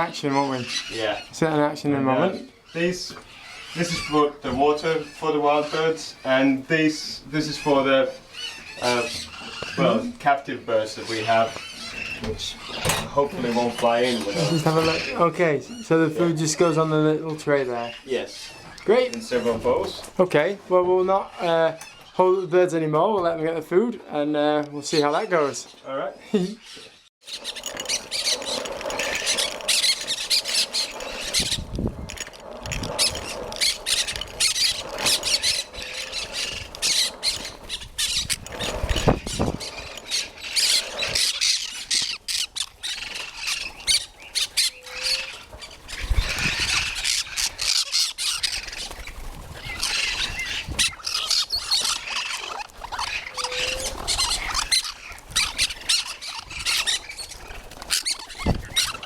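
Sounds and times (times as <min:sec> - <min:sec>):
parrots squawking and screeching: 0:00.0 - 0:23.1, 0:24.4 - 0:59.0.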